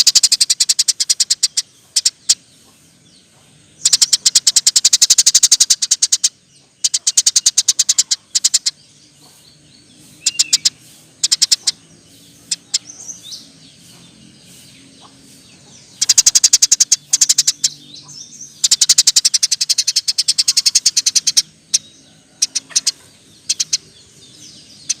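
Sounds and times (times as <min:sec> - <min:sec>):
sparrow chirping: 0:00.0 - 0:25.0.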